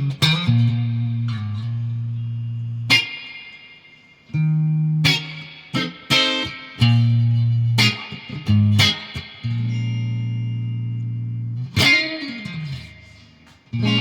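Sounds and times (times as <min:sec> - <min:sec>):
clean electric guitar notes: 0:00.0 - 0:14.0.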